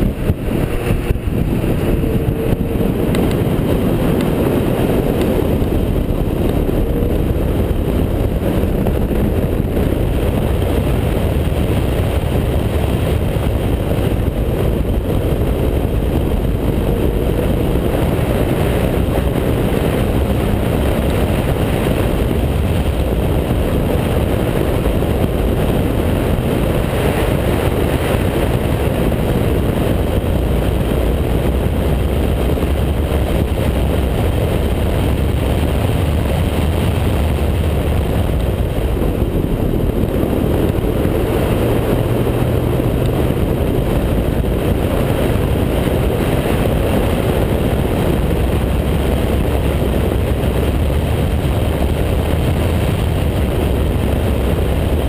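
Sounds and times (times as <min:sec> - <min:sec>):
race car engine at speed: 0:00.0 - 0:55.0
wind buffeting microphone: 0:00.0 - 0:55.0.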